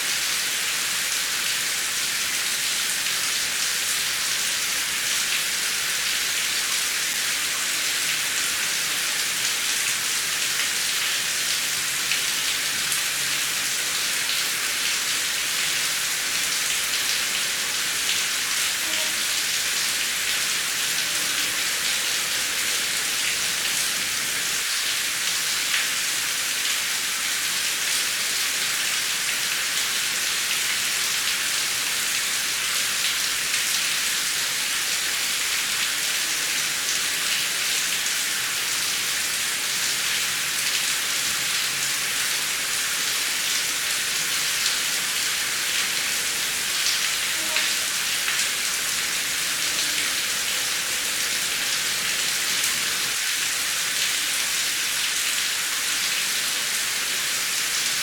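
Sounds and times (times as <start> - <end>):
heavy rain hissing: 0.0 - 25.2, 30.7 - 55.0.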